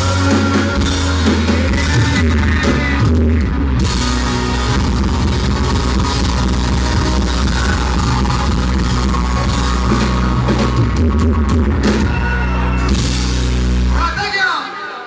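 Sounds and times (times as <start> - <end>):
bass guitar: 0.0 - 14.2
drum kit: 0.0 - 14.2
guitars: 0.0 - 14.2.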